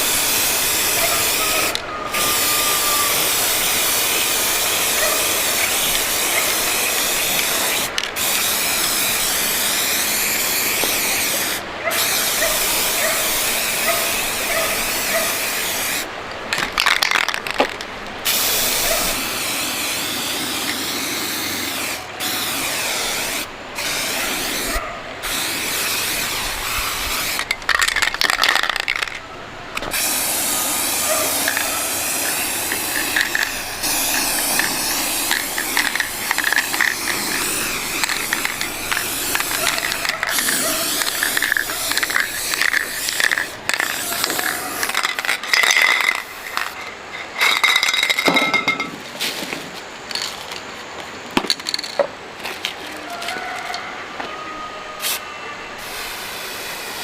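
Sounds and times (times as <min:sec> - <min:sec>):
arc welding crackling hiss: 0:00.0 - 0:29.2, 0:29.8 - 0:48.3, 0:55.8 - 0:57.0.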